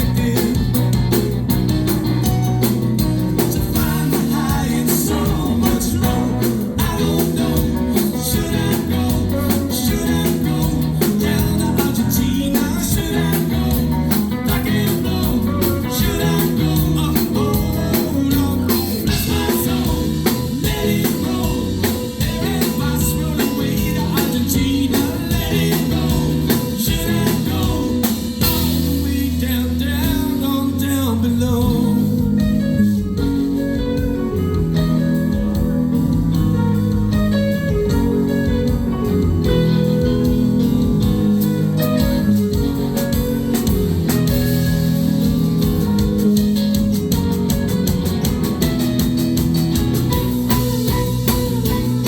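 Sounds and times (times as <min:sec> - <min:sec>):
drum kit beat: 0:00.0 - 0:52.0
electric guitar: 0:00.0 - 0:52.0
live rock band playing: 0:00.0 - 0:52.0.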